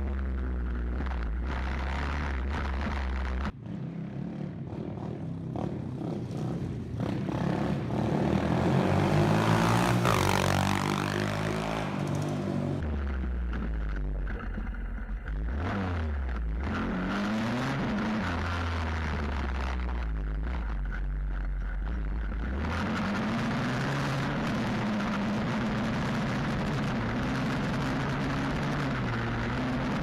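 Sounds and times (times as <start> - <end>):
motorbike engine revving: 0.0 - 30.0
wind and road noise: 0.0 - 30.0.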